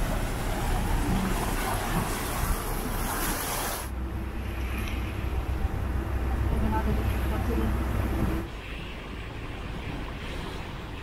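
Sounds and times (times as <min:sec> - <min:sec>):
low engine drone: 0:00.0 - 0:11.0
wind and water hiss: 0:00.0 - 0:11.0.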